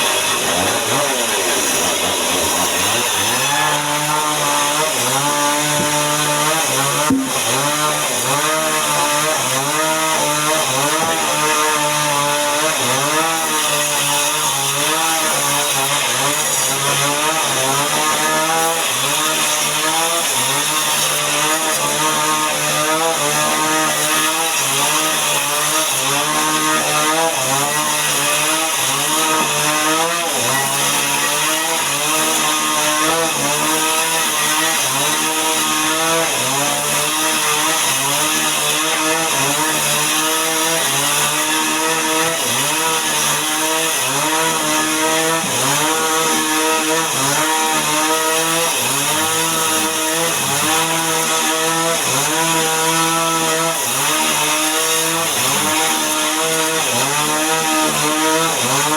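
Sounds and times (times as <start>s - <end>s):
chainsaw cutting timber: 0.0s - 58.9s.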